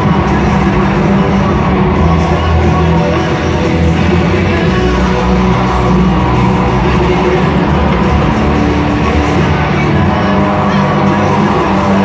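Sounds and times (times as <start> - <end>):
loud rock music over speakers: 0.0 - 12.0.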